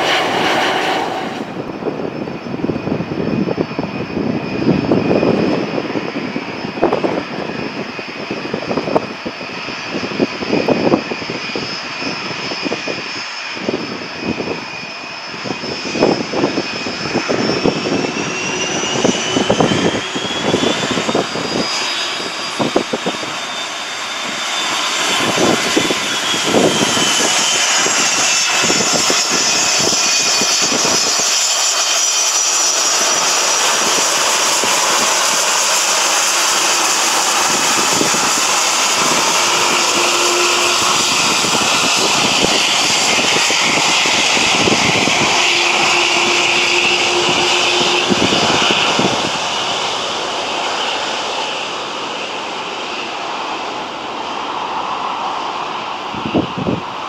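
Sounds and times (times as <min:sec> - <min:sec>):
jet engines running with whine: 0:00.0 - 0:57.0.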